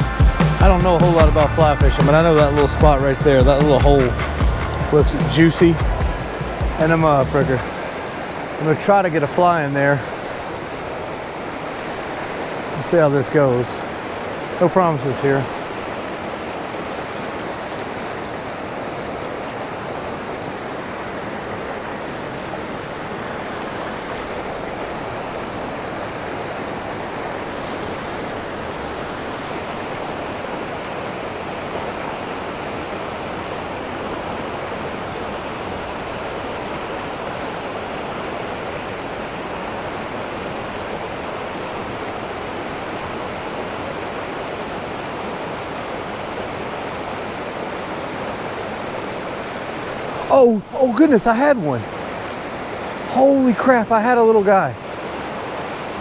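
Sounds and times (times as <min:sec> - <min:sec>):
creek rushing over rocks: 0:00.0 - 0:56.0.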